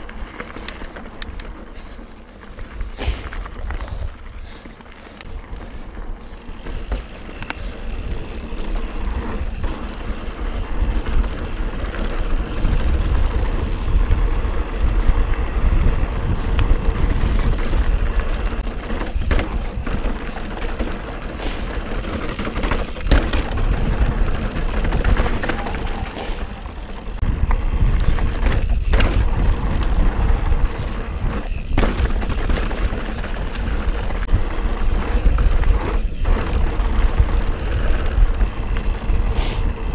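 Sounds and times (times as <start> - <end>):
bike clacking over bumps: 0.0 - 39.9
bike tyre and wind noise: 0.0 - 39.9.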